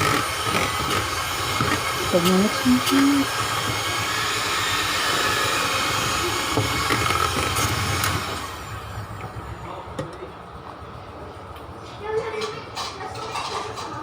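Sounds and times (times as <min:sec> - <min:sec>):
electric mixer running: 0:00.0 - 0:13.8.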